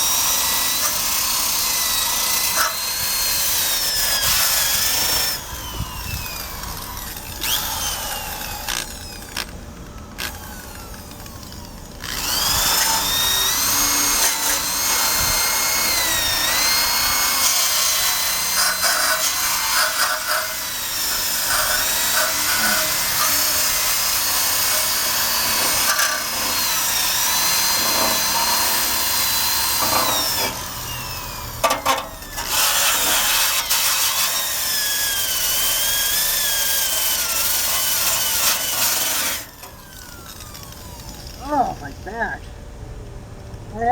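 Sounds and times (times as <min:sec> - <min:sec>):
drill wire brush scrubbing metal: 0:00.0 - 0:09.0, 0:12.0 - 0:42.0.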